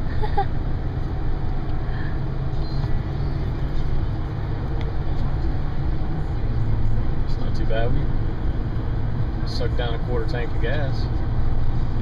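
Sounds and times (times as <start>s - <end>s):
engine and tyre rumble inside cab: 0.0s - 12.0s.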